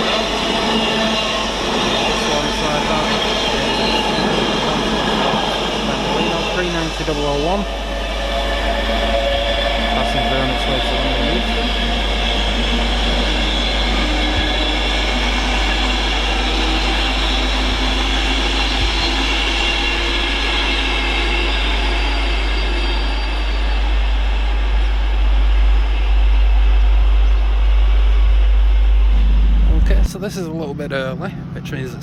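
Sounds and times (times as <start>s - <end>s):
train wheel and rail noise: 0.0s - 32.0s.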